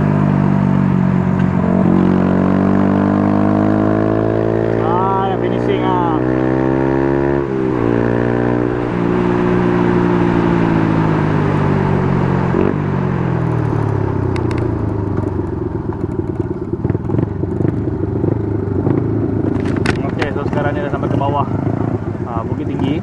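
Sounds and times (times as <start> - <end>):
motorcycle engine slowing: 0.0 - 23.0.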